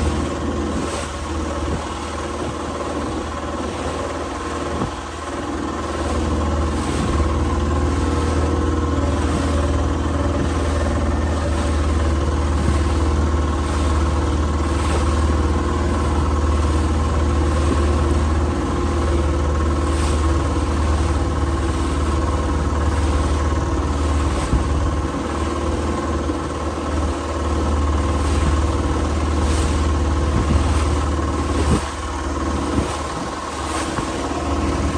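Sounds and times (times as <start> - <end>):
motorboat engine humming: 0.0 - 34.9.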